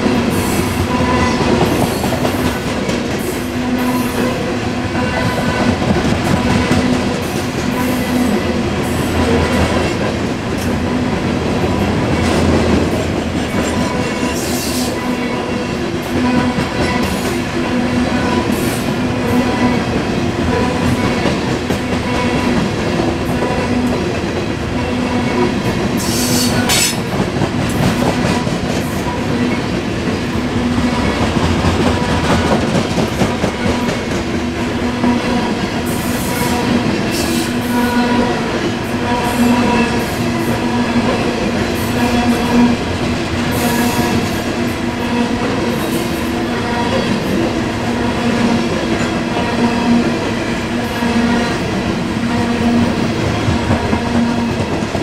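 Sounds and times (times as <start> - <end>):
freight train wheels clattering: 0.0 - 15.0, 16.1 - 37.6, 38.5 - 55.0.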